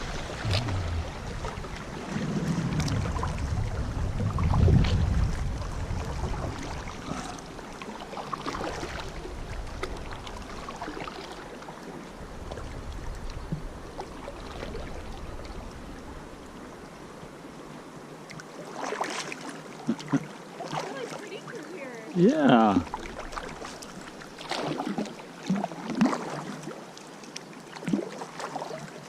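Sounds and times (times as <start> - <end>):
paddle dipping in water: 0.0 - 16.0, 18.2 - 29.0
water running against hull: 0.0 - 29.0.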